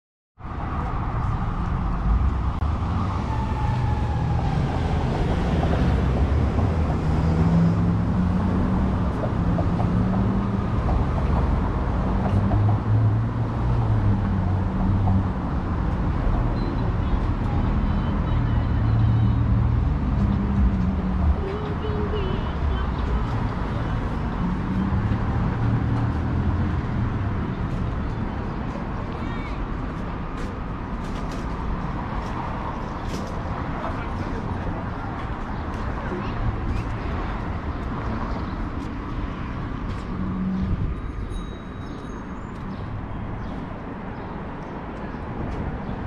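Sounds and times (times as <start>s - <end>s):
street traffic hum: 0.4s - 46.0s.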